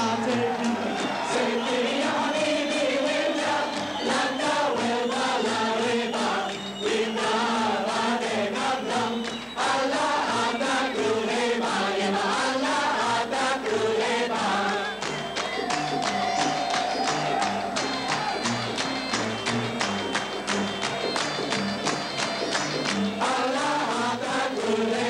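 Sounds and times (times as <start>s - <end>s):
mixed choir singing: 0.0s - 19.4s, 22.1s - 25.0s
rhythmic hand clapping: 0.0s - 25.0s.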